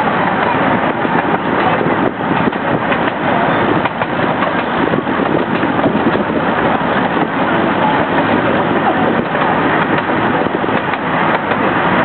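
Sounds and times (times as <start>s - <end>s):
miniature train engine running: 0.0s - 12.0s
train wheels rattling and clicking: 0.0s - 12.0s.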